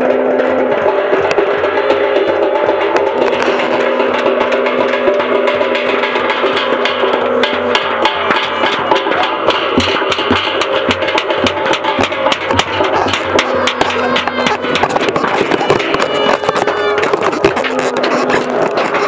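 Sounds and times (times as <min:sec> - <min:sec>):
rapid drum strikes: 0:00.0 - 0:19.0
sustained droning tones: 0:00.0 - 0:19.0.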